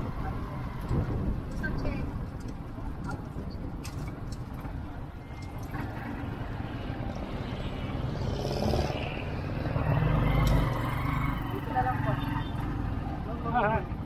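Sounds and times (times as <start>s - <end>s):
surrounding traffic: 0.0s - 14.0s
vehicle engine and road noise: 0.0s - 14.0s.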